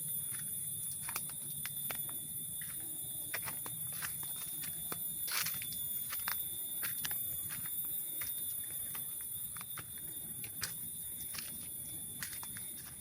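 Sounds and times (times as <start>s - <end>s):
footsteps on trail: 0.0s - 13.0s
high-pitched insect drone: 0.0s - 13.0s.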